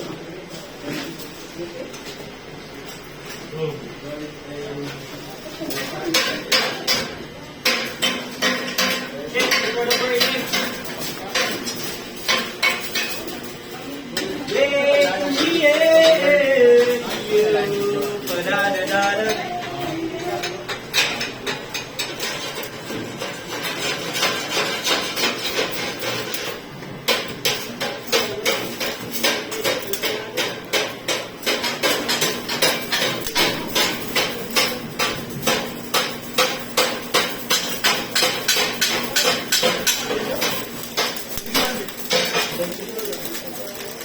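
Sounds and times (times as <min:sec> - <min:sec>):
arc welding crackling: 0:04.8 - 0:44.0.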